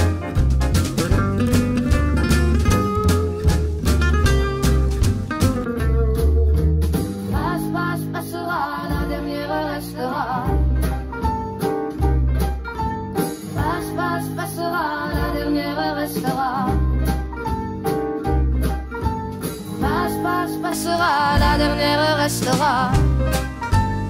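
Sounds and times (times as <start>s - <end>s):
deep bass notes: 0.0s - 8.2s, 9.0s - 14.1s, 16.7s - 24.0s
guitar: 0.0s - 24.0s
pop song music: 0.0s - 24.0s.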